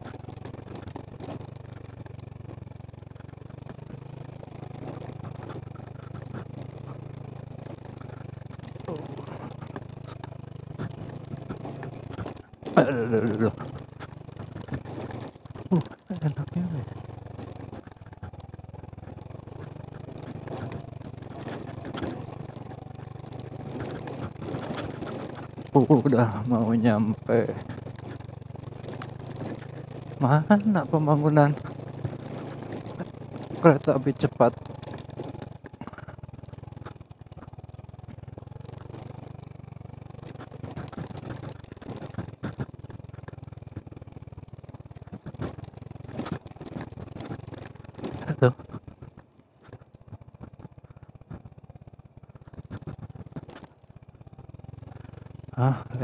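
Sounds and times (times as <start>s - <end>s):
knocks and rattles on gravel: 0.0s - 56.0s
motorcycle engine running: 0.0s - 56.0s.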